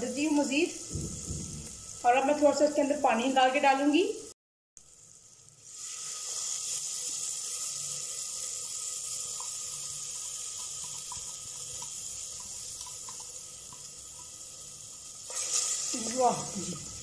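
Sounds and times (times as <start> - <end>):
water hissing in hot pot: 0.0 - 3.3, 4.8 - 17.0.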